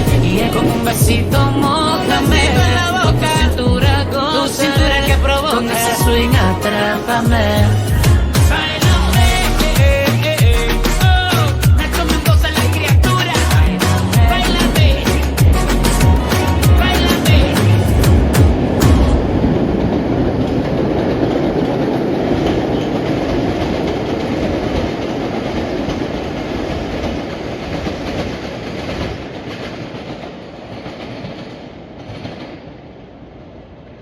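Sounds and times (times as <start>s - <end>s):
train rolling along rails: 0.0s - 34.0s.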